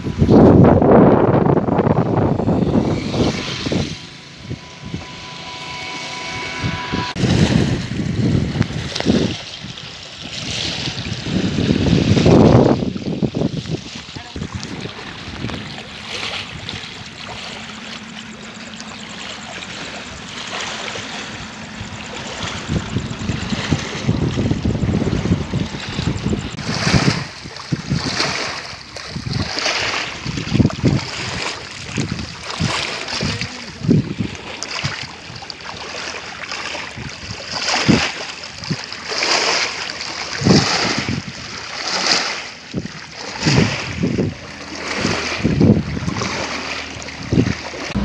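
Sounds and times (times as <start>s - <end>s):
waves lapping against shore: 0.0s - 48.0s
wind gusting on microphone: 0.0s - 48.0s.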